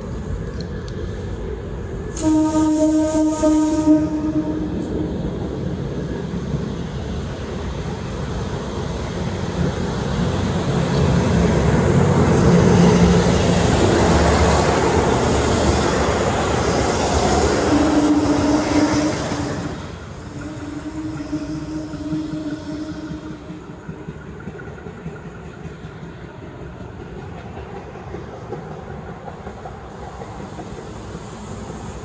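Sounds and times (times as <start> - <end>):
diesel train passing by: 0.0 - 32.0.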